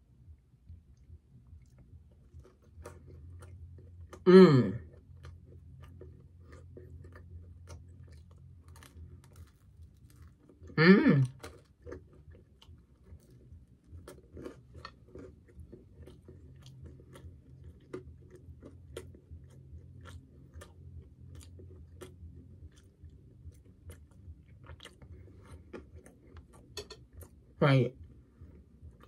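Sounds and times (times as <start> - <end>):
faint low hum: 0.0 - 29.0
person chewing with crunches: 0.6 - 29.0.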